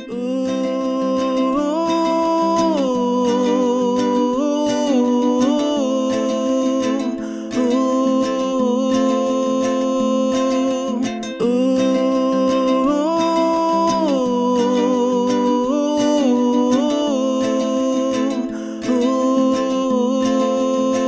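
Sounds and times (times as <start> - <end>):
song with plucked strings: 0.0 - 21.0
wordless held melody: 0.0 - 21.0.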